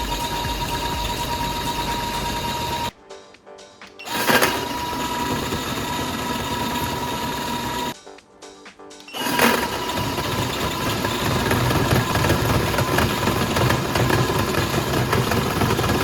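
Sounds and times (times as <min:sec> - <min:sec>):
electric motor rattling buzz: 0:00.0 - 0:02.9, 0:04.1 - 0:08.0, 0:09.1 - 0:16.0.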